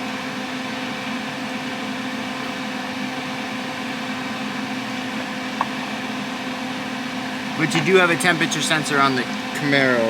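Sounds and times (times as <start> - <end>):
car engine whir and hum: 0.0 - 10.0.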